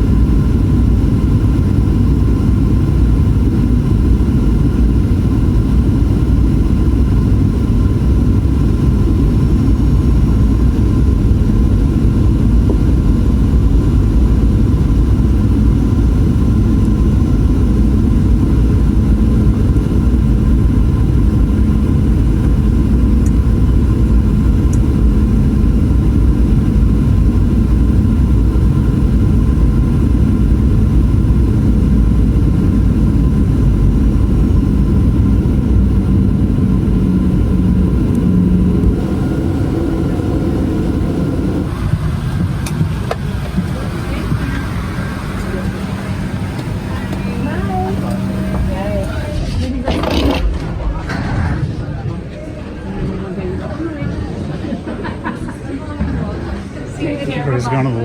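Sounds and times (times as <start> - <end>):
faint steady tones: 0.0 - 49.4
aircraft cabin rumble: 0.0 - 57.4.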